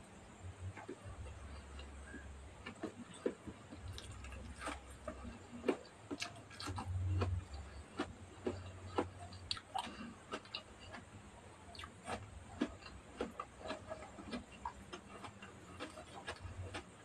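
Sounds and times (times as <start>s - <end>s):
low hum: 0.0s - 17.0s
person chewing with wet smacks: 0.7s - 17.0s.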